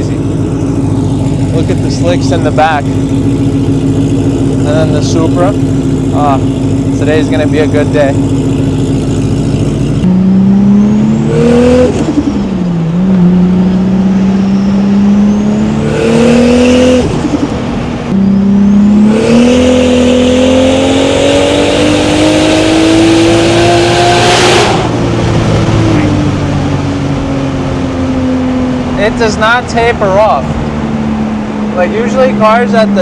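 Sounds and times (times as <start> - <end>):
car engine at full throttle: 0.0 - 33.0.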